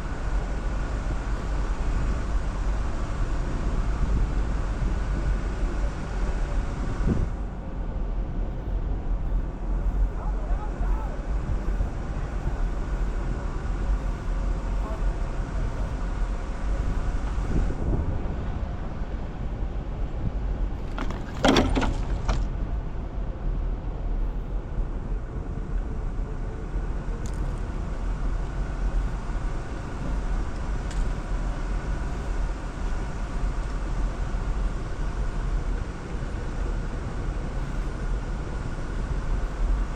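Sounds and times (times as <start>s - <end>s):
vehicle engine low drone: 0.0s - 39.9s.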